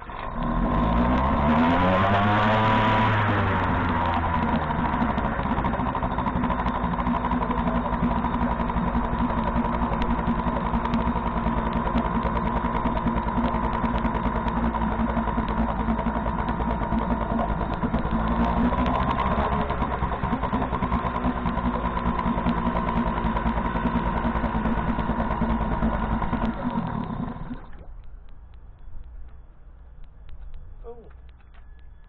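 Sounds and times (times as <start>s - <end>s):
two-stroke outboard motor running: 0.0s - 28.1s.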